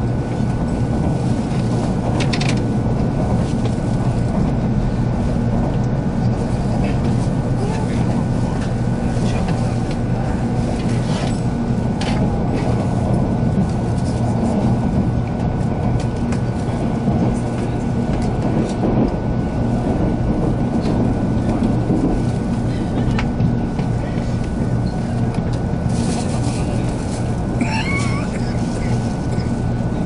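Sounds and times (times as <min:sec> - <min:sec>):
train cabin low rumble and hum: 0:00.0 - 0:30.0.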